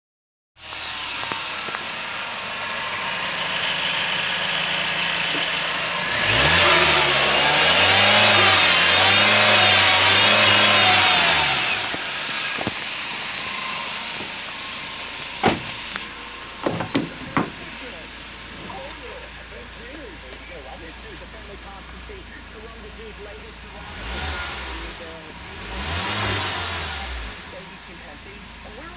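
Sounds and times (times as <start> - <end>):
petrol engine revving: 0.6 - 28.9.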